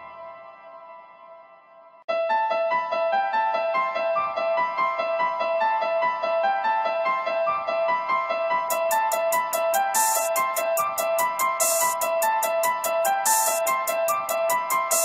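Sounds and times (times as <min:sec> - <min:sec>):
electric piano melody: 0:02.1 - 0:15.0.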